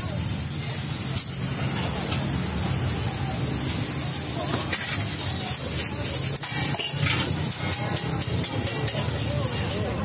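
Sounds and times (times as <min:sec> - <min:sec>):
food sizzling on a griddle: 0:00.0 - 0:10.0.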